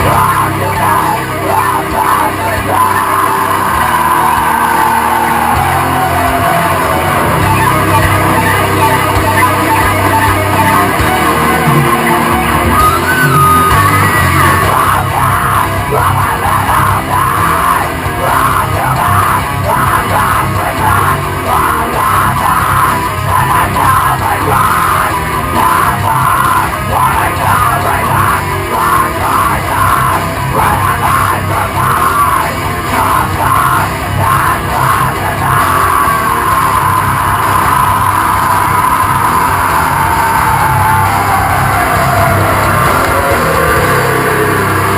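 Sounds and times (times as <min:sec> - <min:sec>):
hard rock song with yelled vocals: 0:00.0 - 0:44.9.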